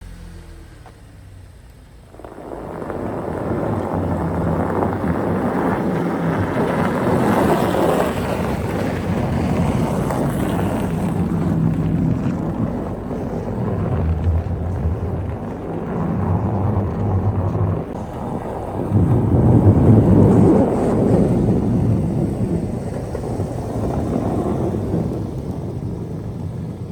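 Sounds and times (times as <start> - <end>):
vehicle engine humming: 0.0 - 26.7
wind buffeting microphone: 2.1 - 26.9.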